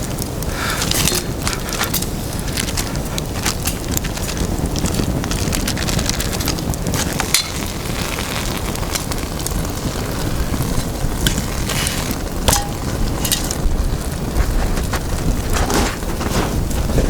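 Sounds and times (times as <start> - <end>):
campfire crackling and popping: 0.0 - 17.0
wind rumble on microphone: 0.0 - 17.0.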